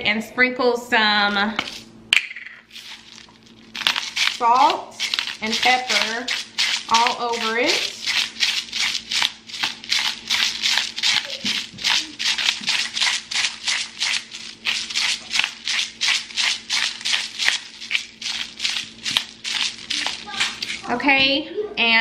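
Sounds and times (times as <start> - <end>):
salt grinder grinding: 2.7 - 21.0.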